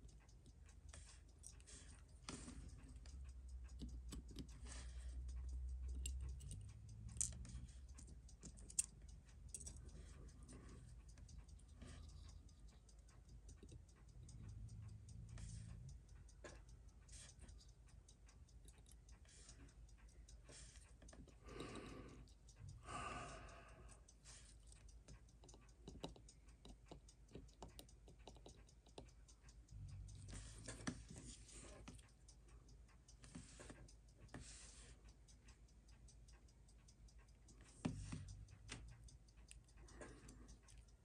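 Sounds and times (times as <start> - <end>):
metal tweezers clicking and tapping: 0.0 - 34.4, 35.0 - 41.0.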